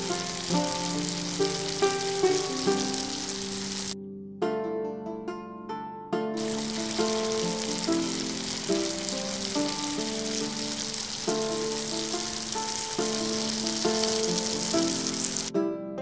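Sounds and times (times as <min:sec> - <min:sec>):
dough deep-frying in oil: 0:00.0 - 0:04.0, 0:06.4 - 0:15.5
instrumental music: 0:00.0 - 0:16.0.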